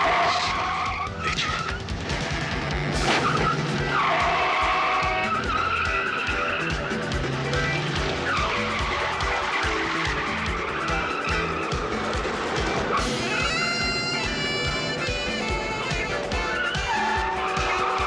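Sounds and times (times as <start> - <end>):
car engine running: 0.0 - 18.0
car tyres squealing: 0.0 - 18.0
film score music: 0.0 - 18.0.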